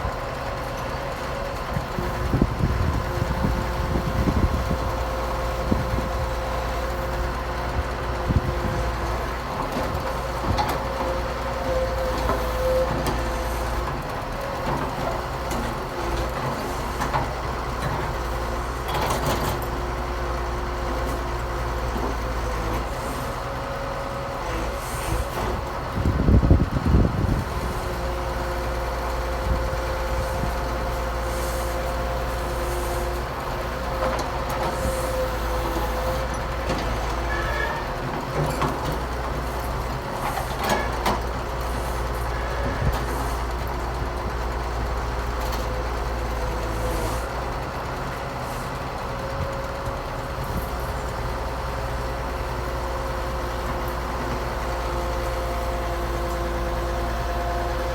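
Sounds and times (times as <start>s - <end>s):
diesel machinery engines rumbling: 0.0s - 57.9s.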